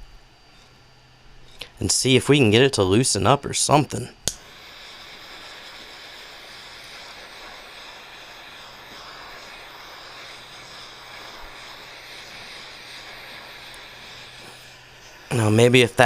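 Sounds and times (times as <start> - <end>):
gas torch hissing: 1.4 - 16.0.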